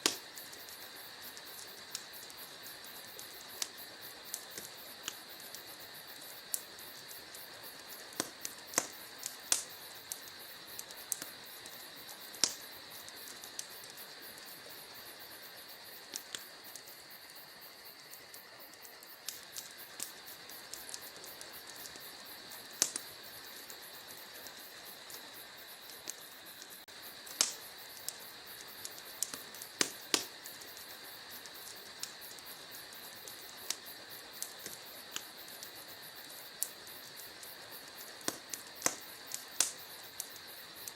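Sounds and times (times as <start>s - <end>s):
crickets chirring: 0.0s - 40.9s
wood fire crackling and popping: 0.0s - 40.9s.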